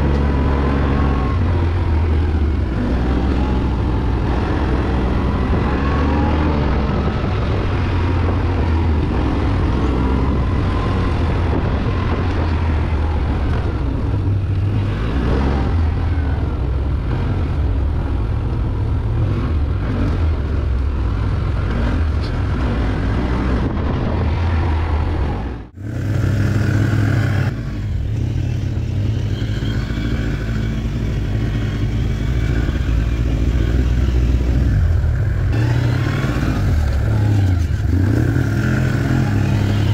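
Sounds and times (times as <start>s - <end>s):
atv engine running: 0.0s - 24.8s, 25.7s - 39.9s.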